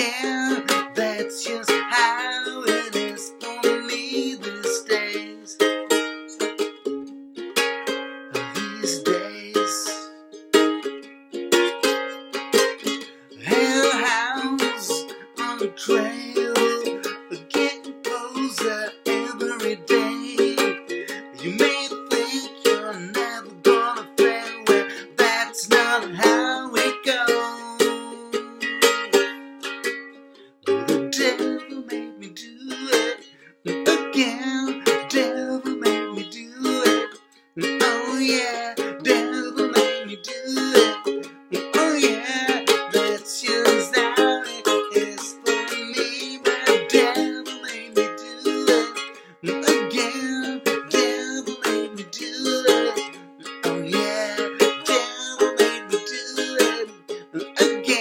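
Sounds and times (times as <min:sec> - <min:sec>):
man singing: 0:00.0 - 0:06.5, 0:08.3 - 0:10.2, 0:13.4 - 0:29.0, 0:30.7 - 0:58.0
strummed ukulele: 0:00.0 - 0:58.0.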